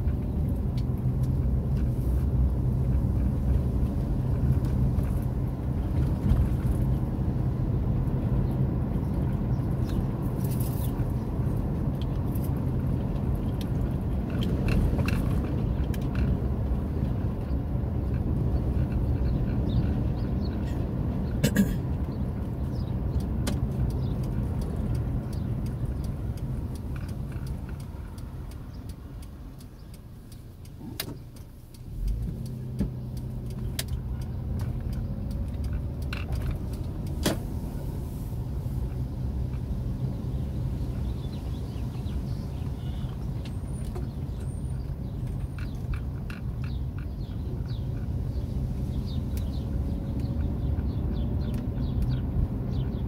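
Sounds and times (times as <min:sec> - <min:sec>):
car engine and tyre noise: 0:00.0 - 0:53.0.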